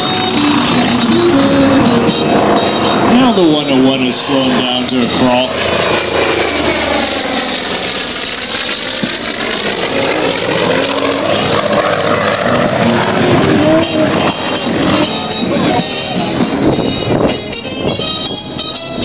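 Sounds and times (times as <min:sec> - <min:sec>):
propeller plane engine passing: 0:00.0 - 0:19.0.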